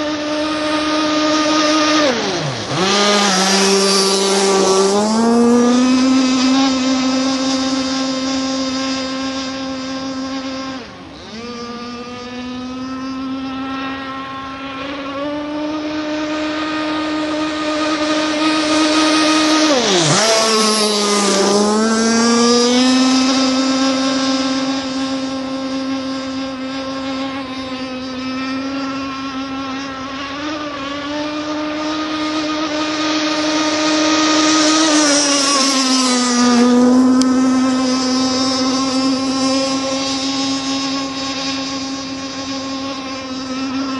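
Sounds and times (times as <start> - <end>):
model boat motor high pitch: 0.0 - 43.9.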